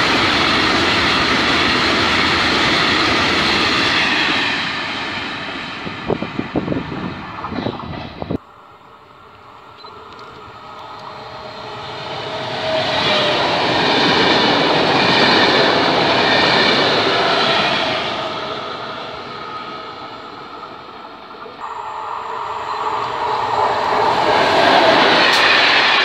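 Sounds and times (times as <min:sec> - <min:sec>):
electric train passing at speed: 0:00.0 - 0:26.0.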